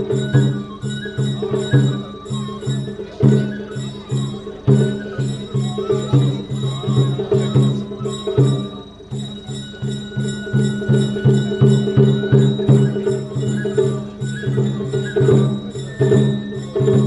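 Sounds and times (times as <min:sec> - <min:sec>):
drums beating quick rhythm: 0:00.0 - 0:17.0
ringing metal percussion: 0:00.0 - 0:17.0.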